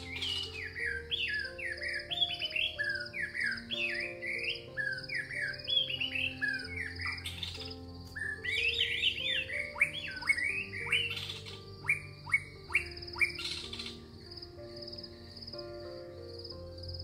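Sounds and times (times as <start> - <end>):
crickets chirping: 0.0 - 17.0
soft sustained music chords: 0.0 - 17.0
songbirds singing: 0.0 - 17.0.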